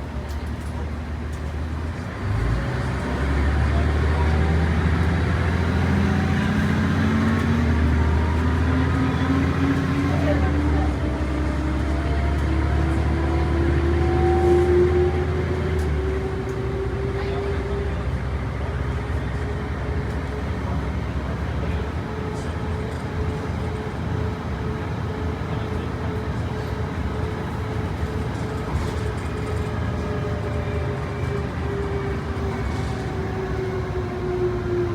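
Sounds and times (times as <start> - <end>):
bus drivetrain whine: 0.0 - 34.9
road and engine noise: 0.0 - 34.9.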